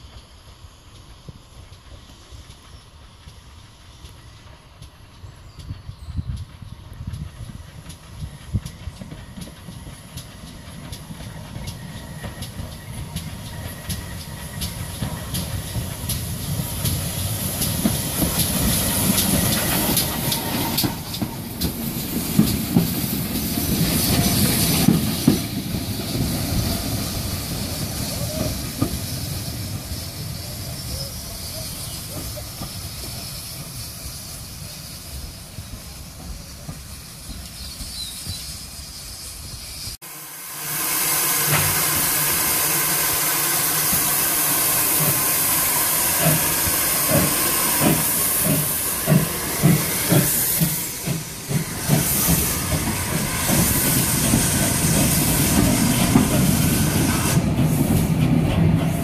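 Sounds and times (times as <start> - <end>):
train wheels clicking over rail joints: 0.0 - 40.0, 41.2 - 59.0
steam hissing: 0.0 - 59.0.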